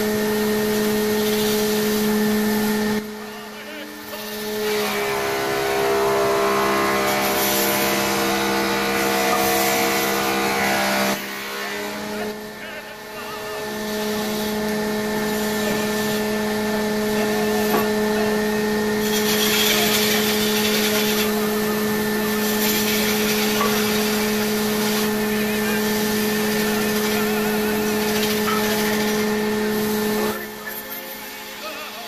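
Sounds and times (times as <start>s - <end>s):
wood lathe motor hum: 0.0s - 32.0s
tool rasping against turning wood: 3.8s - 32.0s.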